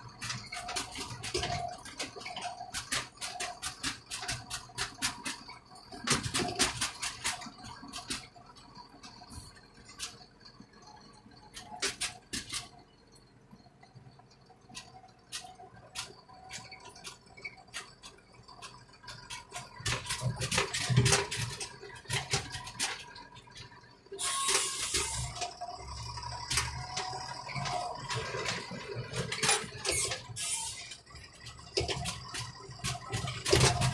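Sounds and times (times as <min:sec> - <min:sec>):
tractor engine drone: 0:00.0 - 0:33.9
clicks and rattles in cab: 0:00.1 - 0:10.5, 0:11.4 - 0:12.9, 0:14.4 - 0:33.9.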